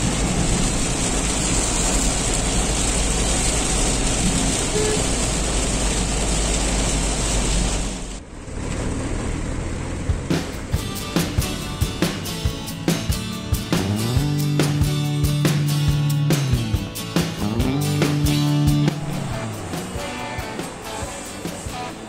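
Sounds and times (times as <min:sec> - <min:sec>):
heavy rain on car roof: 0:00.0 - 0:22.0
tyre and road noise: 0:00.0 - 0:22.0.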